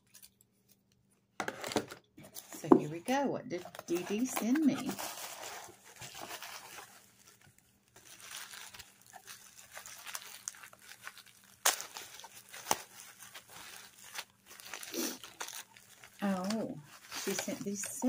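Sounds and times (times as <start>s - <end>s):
plastic packaging crinkling: 1.5s - 18.0s.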